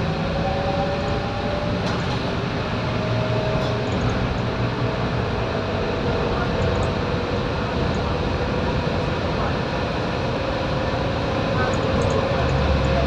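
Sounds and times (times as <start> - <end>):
diesel bus engine running: 0.0 - 13.0.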